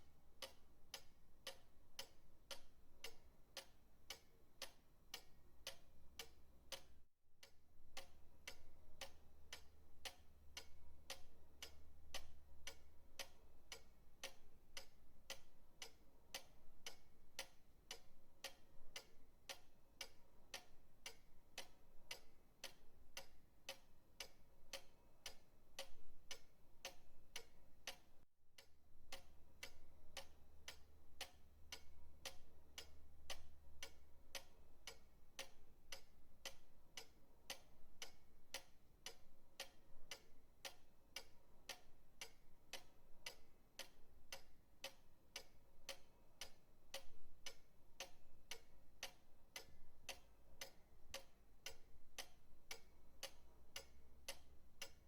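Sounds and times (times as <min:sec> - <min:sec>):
pendulum clock ticking: 0:00.0 - 0:55.0.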